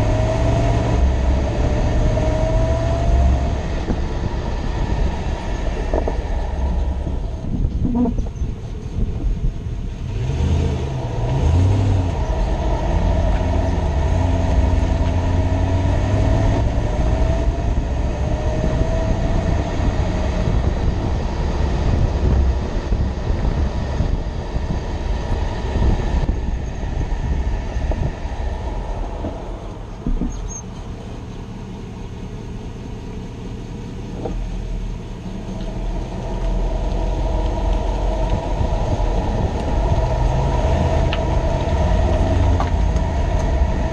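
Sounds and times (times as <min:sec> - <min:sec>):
gear shifting whine: 0:00.0 - 0:43.9
pickup engine and road rumble: 0:00.0 - 0:43.9.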